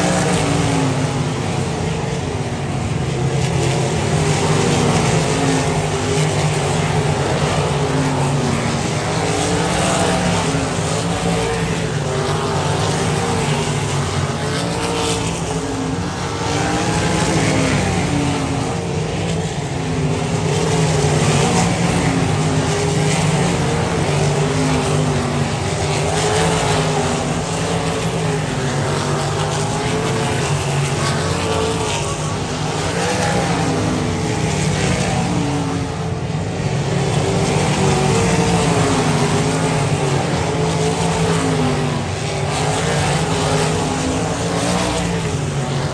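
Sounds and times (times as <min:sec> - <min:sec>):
racing car engines: 0:00.0 - 0:45.9.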